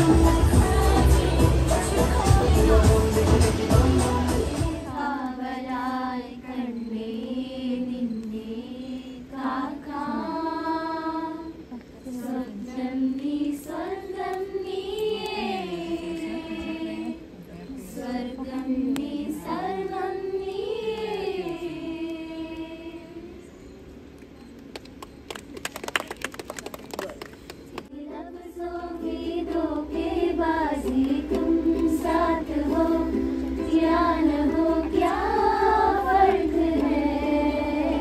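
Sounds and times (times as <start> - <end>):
woman singing unaccompanied: 0.0 - 23.4, 27.9 - 38.0.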